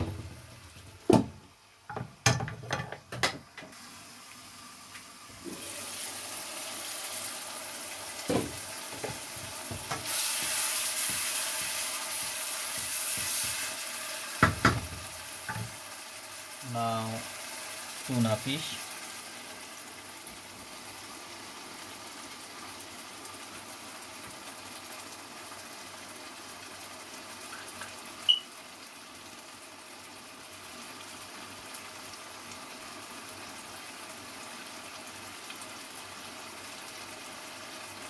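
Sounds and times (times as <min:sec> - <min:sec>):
sauce simmering in a wok: 0:00.0 - 0:38.0.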